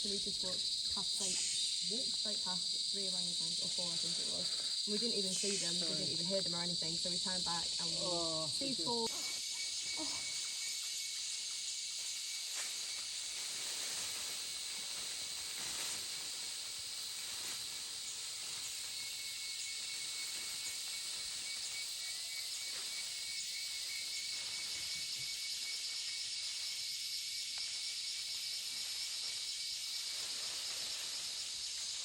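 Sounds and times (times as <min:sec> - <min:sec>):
insect chorus buzzing: 0:00.0 - 0:32.0.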